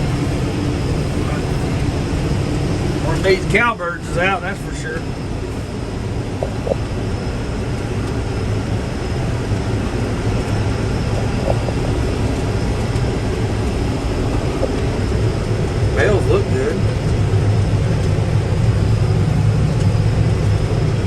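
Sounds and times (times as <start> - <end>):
tractor engine under load: 0.0 - 8.3, 9.1 - 18.9.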